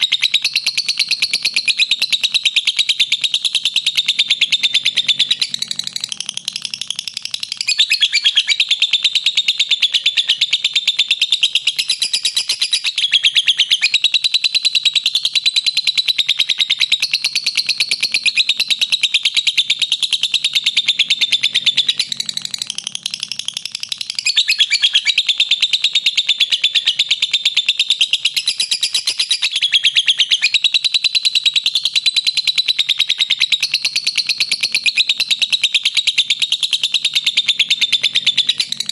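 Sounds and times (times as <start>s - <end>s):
lovebird chattering: 0.0s - 38.9s.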